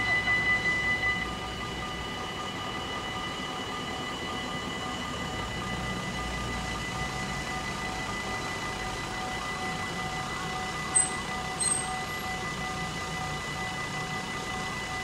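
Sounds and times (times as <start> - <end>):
level crossing warning bells: 0.0 - 14.8.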